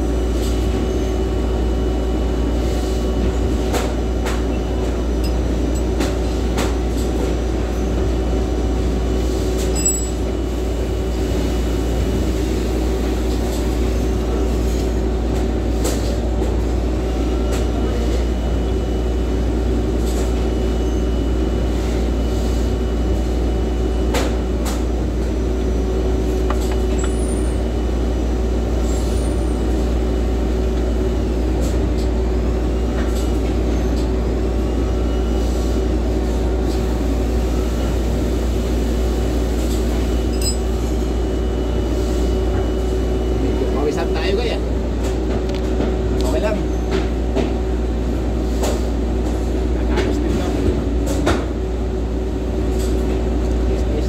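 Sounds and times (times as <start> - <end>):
machinery drone with deep hum: 0.0 - 54.0.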